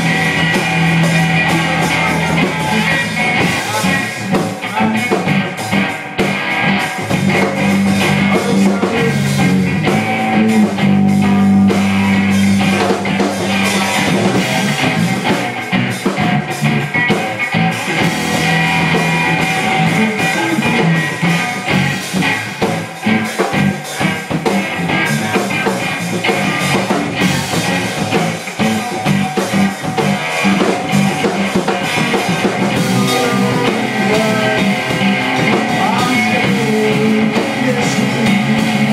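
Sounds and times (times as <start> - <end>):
drum kit: 0.0 - 38.9
electric bass: 0.0 - 38.9
electric guitar: 0.0 - 38.9.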